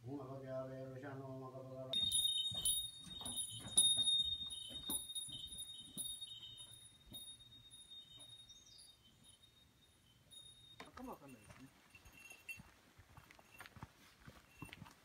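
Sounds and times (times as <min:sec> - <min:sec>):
small high-pitched bell ringing: 0:01.9 - 0:15.0.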